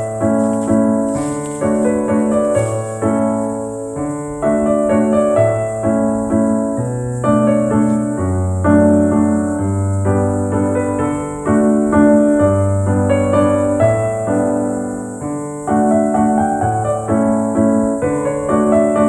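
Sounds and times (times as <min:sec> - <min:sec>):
piano piece with steady beat: 0:00.0 - 0:19.0.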